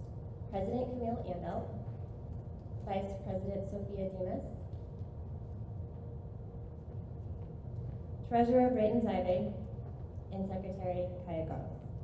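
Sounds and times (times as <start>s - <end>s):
faint steady hum: 0.0s - 12.0s
low room rumble: 0.0s - 12.0s.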